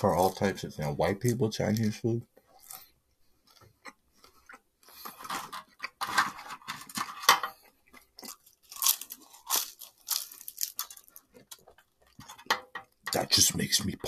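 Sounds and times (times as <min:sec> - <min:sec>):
crunchy chewing of fried food: 0:01.2 - 0:13.0.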